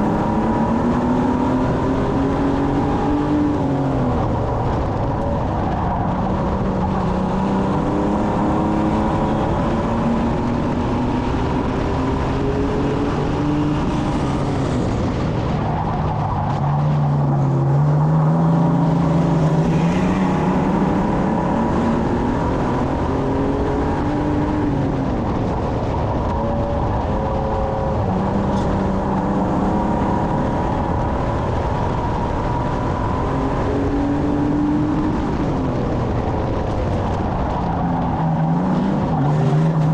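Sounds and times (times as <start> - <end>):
car engine revving: 0.0 - 39.9
road and wind noise: 0.0 - 39.9.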